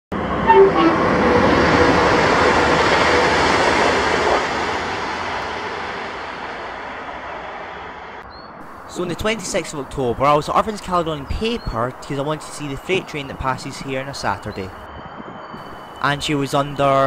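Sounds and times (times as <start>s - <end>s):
train wheels rushing on rail: 0.2s - 14.1s.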